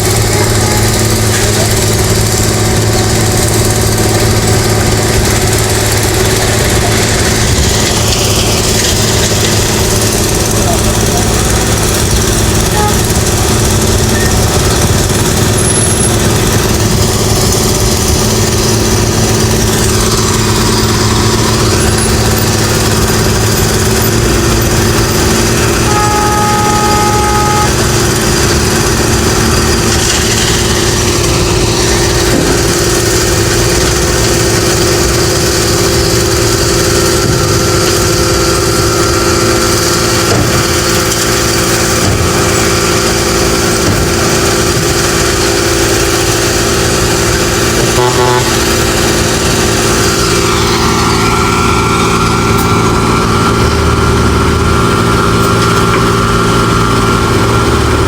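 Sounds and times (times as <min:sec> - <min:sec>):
machinery engine running: 0:00.0 - 0:58.0.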